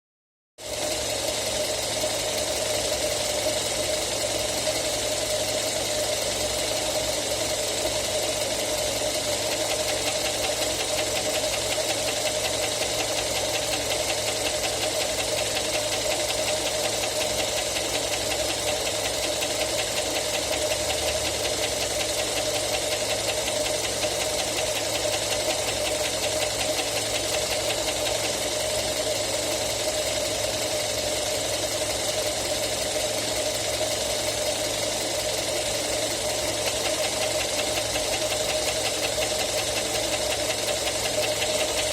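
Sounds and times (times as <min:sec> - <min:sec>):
car engine running: 0:00.6 - 0:41.9.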